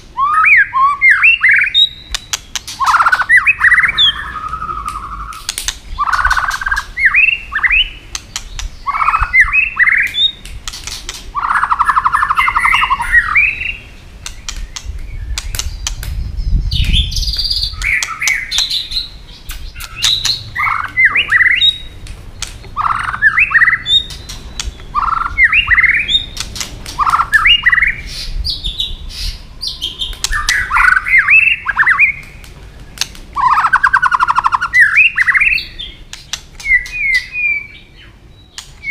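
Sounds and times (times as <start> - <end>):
sharp clicking bird calls: 0.0 - 38.9
bird whistling song: 0.1 - 32.4, 33.4 - 38.9
buzzy rattling bird notes: 1.1 - 38.9.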